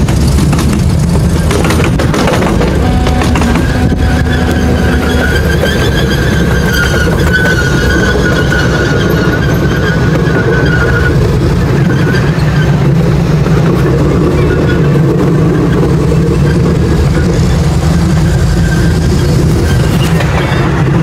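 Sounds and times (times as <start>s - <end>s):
train wheels rumbling on track: 0.0s - 21.0s
high wheel squeal: 1.2s - 21.0s.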